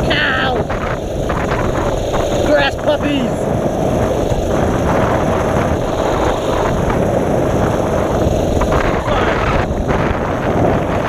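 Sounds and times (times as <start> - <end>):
small engine running: 0.0 - 11.0
wind buffeting microphone: 0.0 - 11.0.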